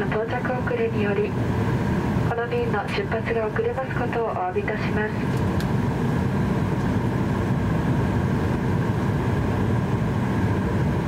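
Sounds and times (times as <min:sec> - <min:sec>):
cabin air conditioning rumble: 0:00.0 - 0:11.0
faint steady hum: 0:00.0 - 0:11.0.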